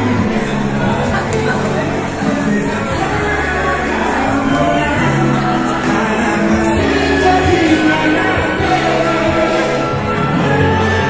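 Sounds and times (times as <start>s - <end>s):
music with singing voice: 0.0s - 11.0s.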